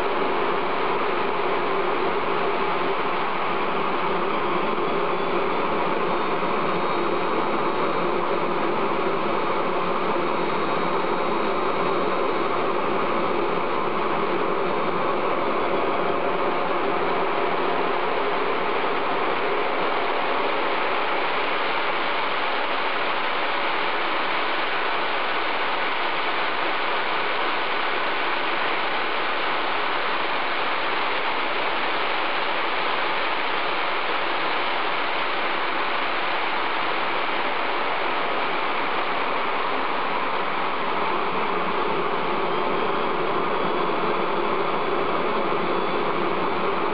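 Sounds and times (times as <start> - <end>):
gas turbine running: 0.0 - 46.9.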